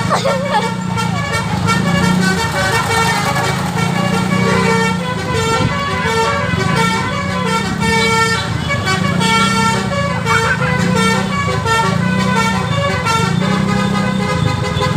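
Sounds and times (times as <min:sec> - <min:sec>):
musical bus horn melody: 0:00.0 - 0:14.9.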